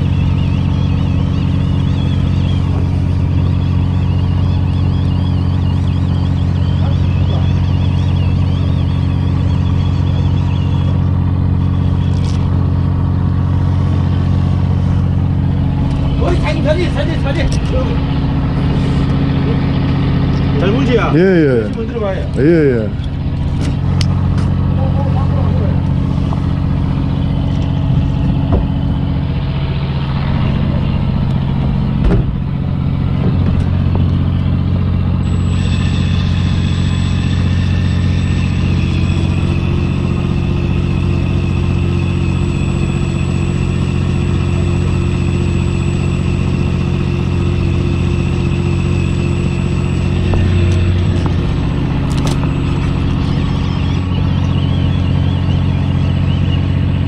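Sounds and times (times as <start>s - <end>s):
boat engine droning: 0.0s - 57.0s
high whine: 0.0s - 57.0s.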